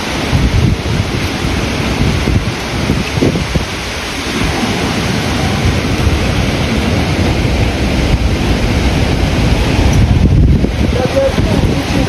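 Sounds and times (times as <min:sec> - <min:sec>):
heavy rain: 0:00.0 - 0:12.0
hurricane wind: 0:00.0 - 0:12.0
wind buffeting microphone: 0:00.0 - 0:12.0.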